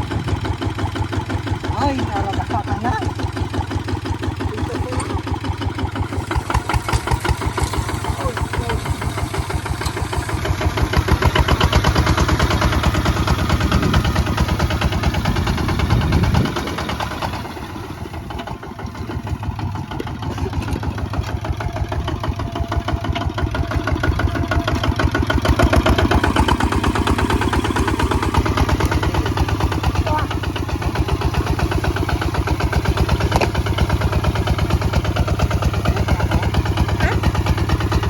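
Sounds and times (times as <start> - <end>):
diesel tractor engine chugging: 0.0 - 38.0.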